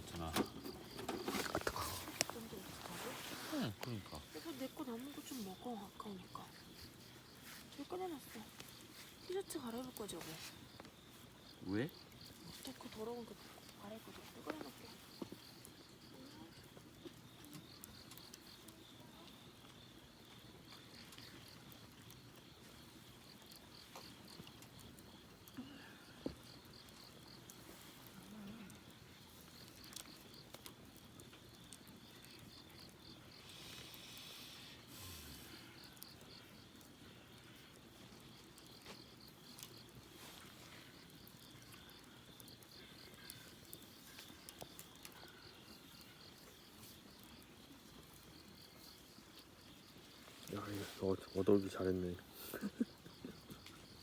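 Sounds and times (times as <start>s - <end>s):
faint crickets chirping: 0.0s - 54.0s.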